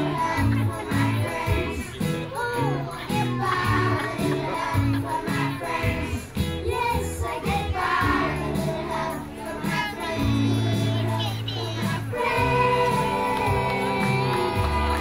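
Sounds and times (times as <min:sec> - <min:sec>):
children singing along: 0:00.0 - 0:15.0
song playing: 0:00.0 - 0:15.0.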